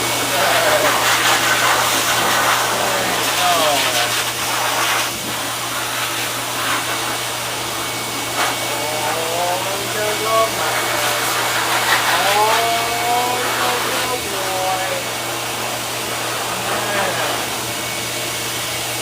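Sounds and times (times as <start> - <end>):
pet blower dryer running: 0.0 - 19.0.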